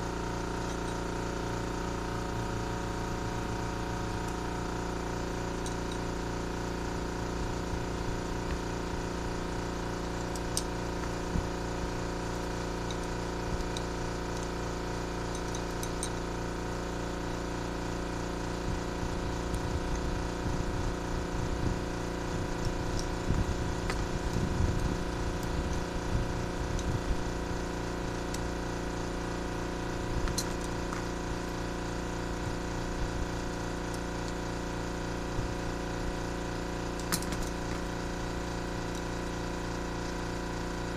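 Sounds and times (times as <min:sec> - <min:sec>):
steady motor hum: 0:00.0 - 0:40.9.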